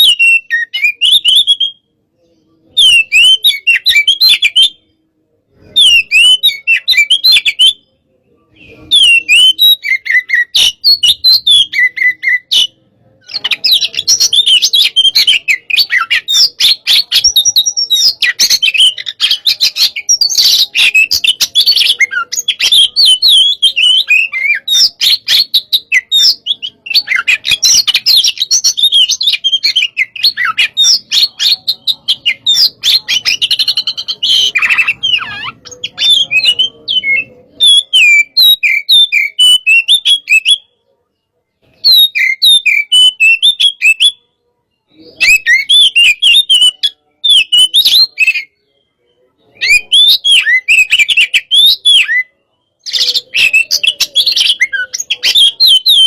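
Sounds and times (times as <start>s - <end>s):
songbird singing whistles and trills: 0.0s - 40.8s, 41.6s - 56.0s.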